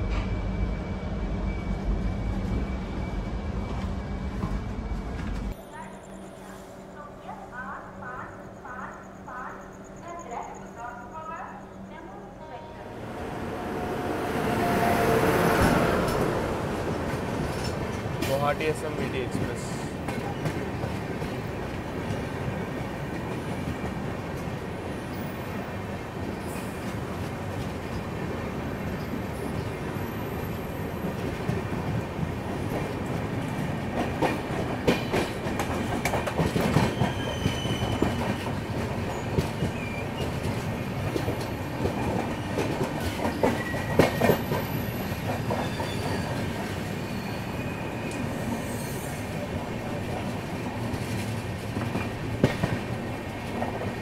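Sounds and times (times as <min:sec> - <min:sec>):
train wheels rumbling on rails: 0:00.0 - 0:06.6, 0:08.7 - 0:54.0.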